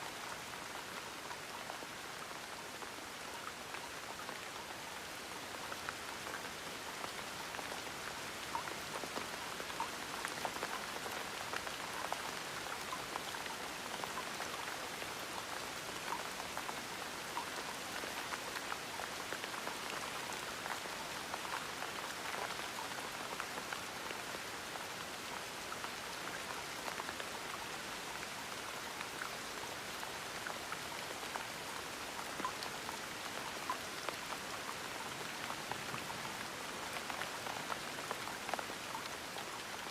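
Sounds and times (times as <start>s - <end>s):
gentle steady rain: 0.0s - 39.9s.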